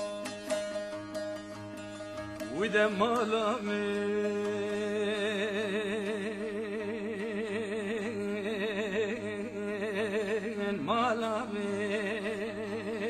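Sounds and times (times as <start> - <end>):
person singing with vibrato: 2.4 - 13.0.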